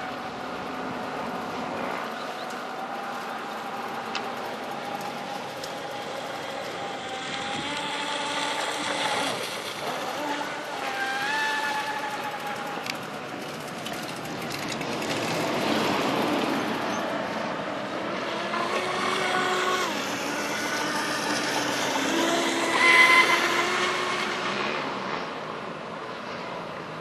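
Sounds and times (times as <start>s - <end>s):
electric motor whine: 0.0s - 25.4s.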